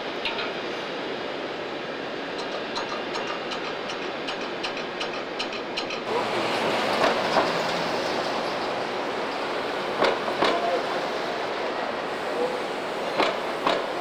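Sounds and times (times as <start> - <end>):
city street traffic: 0.0 - 14.0
steady hiss: 0.0 - 14.0.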